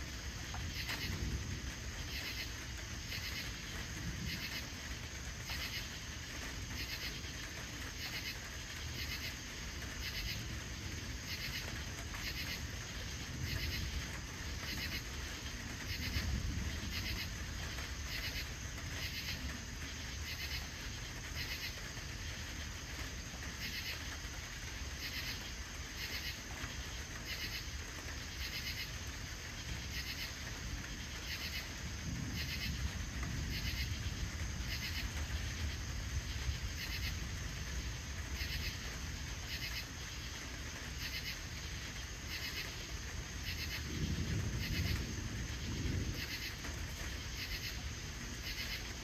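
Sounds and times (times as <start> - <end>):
distant thunder rumble: 0.0 - 24.3, 26.0 - 49.0
crickets chirping: 0.0 - 49.0.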